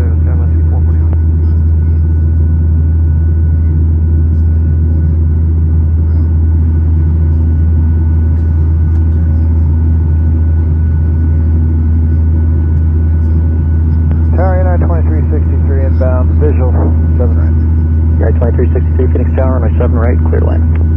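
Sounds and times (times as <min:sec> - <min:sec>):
aircraft cabin engine roar: 0:00.0 - 0:20.9
faint engine whine: 0:00.0 - 0:20.9.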